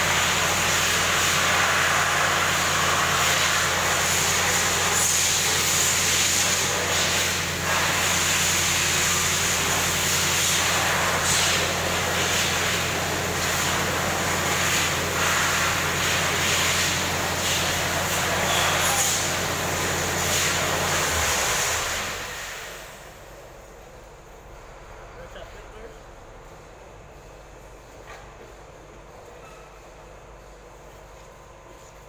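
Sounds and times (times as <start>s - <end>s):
heavy machinery running: 0.0s - 29.2s.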